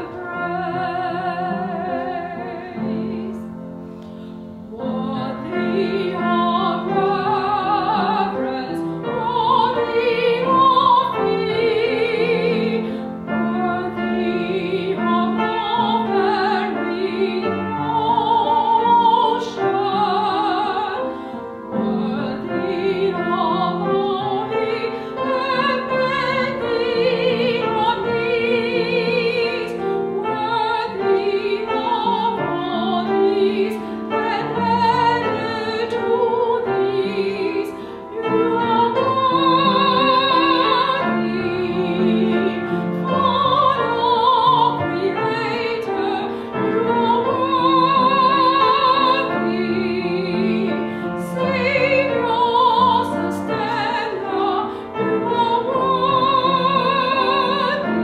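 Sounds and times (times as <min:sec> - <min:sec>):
woman singing with vibrato: 0:00.0 - 0:03.5, 0:04.8 - 0:21.1, 0:21.8 - 0:58.0
piano: 0:00.0 - 0:58.0.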